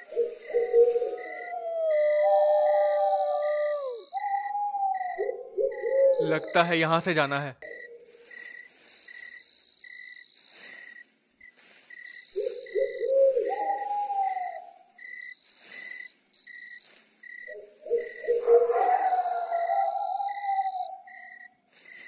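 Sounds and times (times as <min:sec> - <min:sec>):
owl hooting: 0:00.0 - 0:10.9, 0:12.0 - 0:21.5
crickets and insects chirping: 0:00.0 - 0:22.0.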